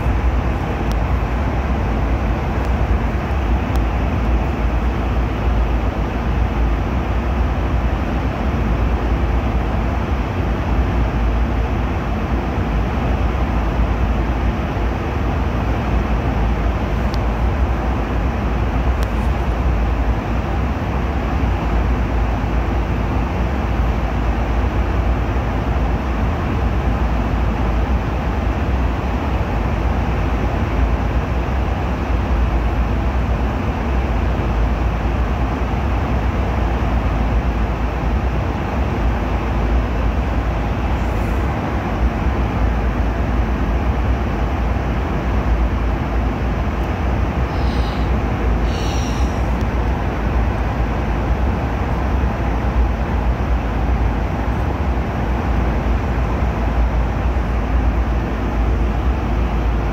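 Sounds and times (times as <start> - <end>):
airliner cabin engine rumble: 0.0 - 59.9
cabin air hiss: 0.0 - 59.9.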